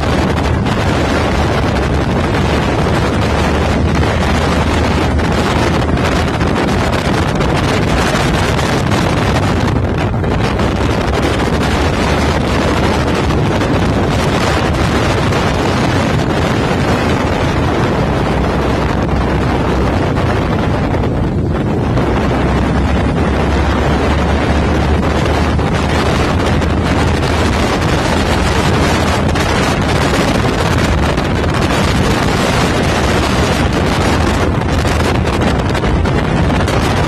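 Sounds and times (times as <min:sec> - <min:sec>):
wind blowing on microphone: 0:00.0 - 0:37.0.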